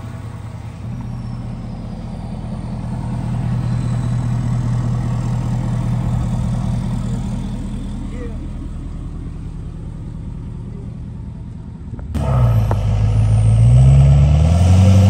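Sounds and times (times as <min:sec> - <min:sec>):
pickup truck engine idling: 0:00.0 - 0:13.4.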